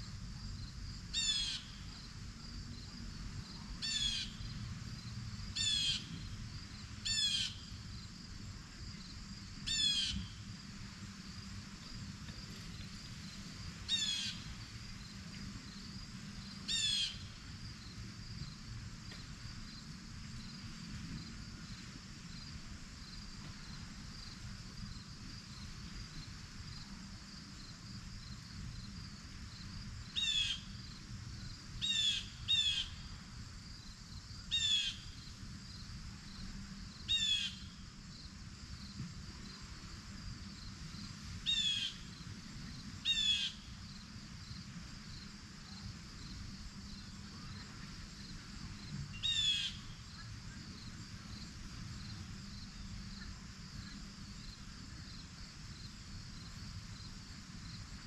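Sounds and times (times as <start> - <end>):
high-pitched insect hum: 0.0 - 58.0.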